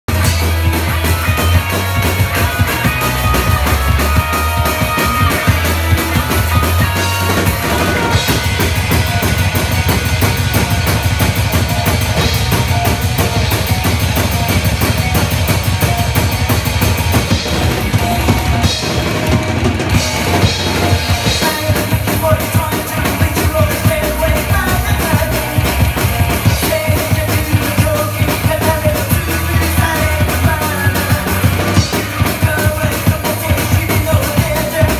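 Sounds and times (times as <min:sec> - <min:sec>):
drum kit playing rock beat: 0:00.0 - 0:34.9
loud rock music: 0:00.0 - 0:34.9.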